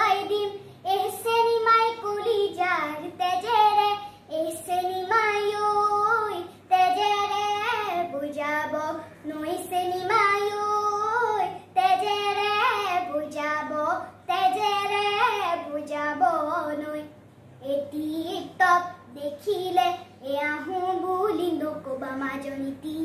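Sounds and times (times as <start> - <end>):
girl singing unaccompanied: 0.0 - 23.0.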